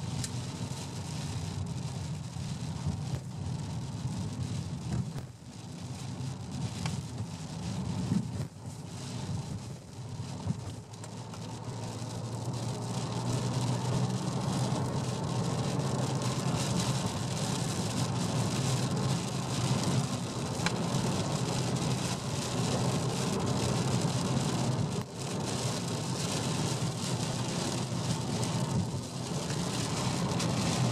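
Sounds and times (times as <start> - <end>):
car road and engine drone: 0.0 - 30.9
rain and tyre spray hiss: 0.0 - 30.9.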